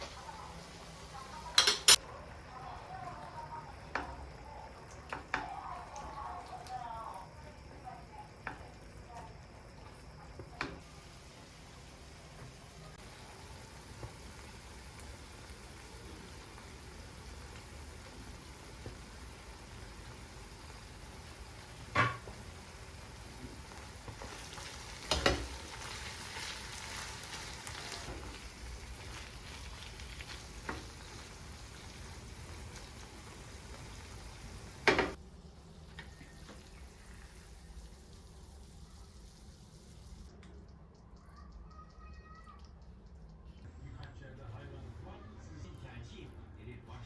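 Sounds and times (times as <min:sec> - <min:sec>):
food sizzling in a frying pan: 0:00.0 - 0:40.3.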